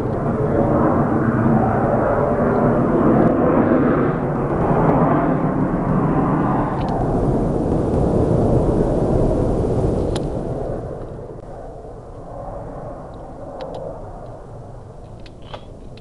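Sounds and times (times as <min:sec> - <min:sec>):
jet engine rumble passing overhead: 0:00.0 - 0:16.0.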